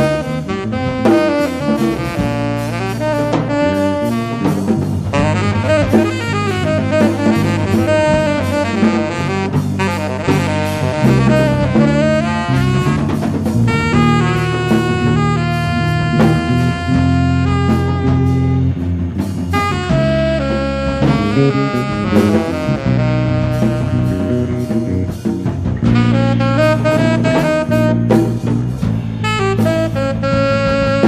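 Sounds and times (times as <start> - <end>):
drum kit with cymbals: 0.0 - 31.0
electric bass: 0.0 - 31.0
saxophone: 0.0 - 31.0.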